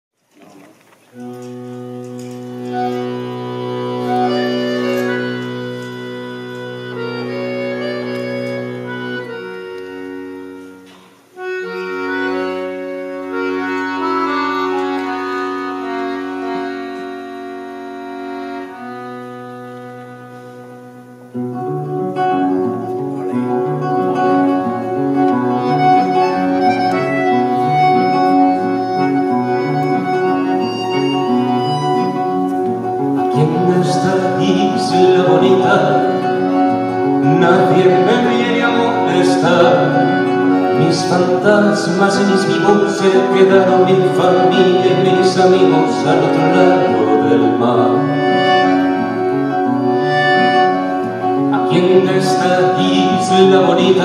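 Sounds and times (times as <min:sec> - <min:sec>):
acoustic guitar: 0:00.2 - 0:54.0
accordion chords: 0:01.1 - 0:54.0
rhythmic accompaniment: 0:01.1 - 0:54.0.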